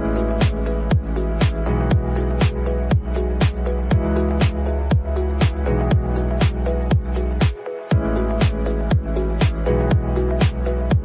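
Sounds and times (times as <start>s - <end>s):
held synth chords: 0.0s - 11.0s
kick drum beat: 0.0s - 11.0s.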